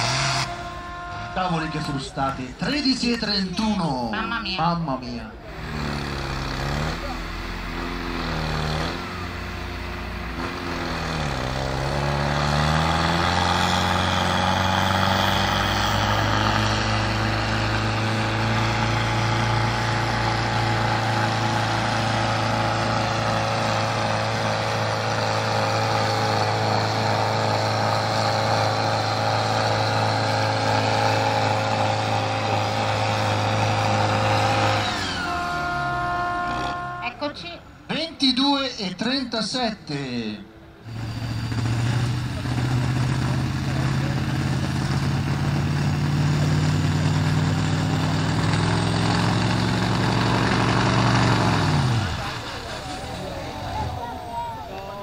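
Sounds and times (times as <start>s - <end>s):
tractor engine at full throttle: 0.0s - 37.9s, 40.6s - 55.0s.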